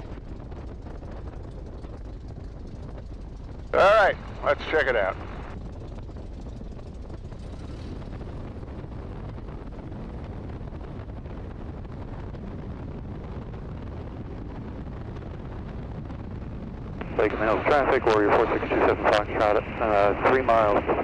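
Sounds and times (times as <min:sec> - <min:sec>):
biplane engine and propeller drone: 0:00.0 - 0:21.0
wind rushing over microphone: 0:00.0 - 0:21.0.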